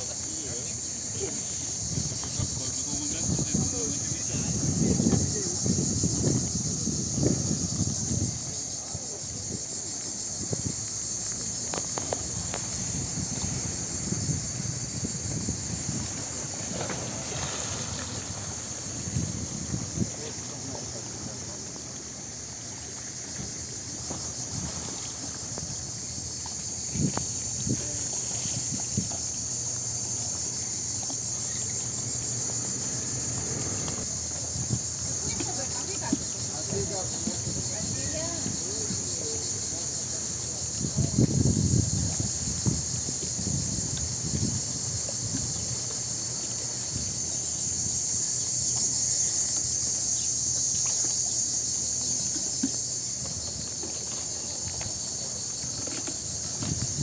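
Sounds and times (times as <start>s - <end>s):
cicadas shrilling: 0.0s - 57.0s.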